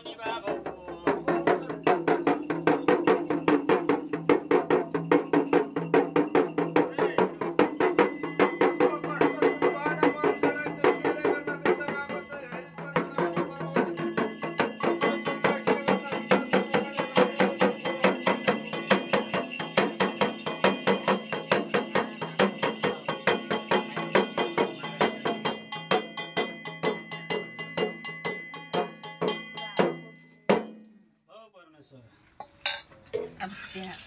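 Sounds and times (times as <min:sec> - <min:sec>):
drum beaten in fast rhythm: 0:00.0 - 0:31.0
metallic ringing: 0:01.2 - 0:31.0.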